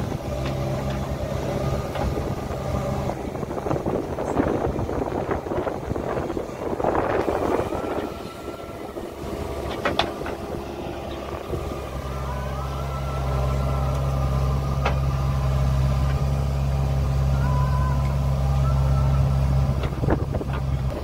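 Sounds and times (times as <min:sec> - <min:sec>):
diesel engine working: 0:00.0 - 0:21.0
thin whine: 0:00.0 - 0:21.0.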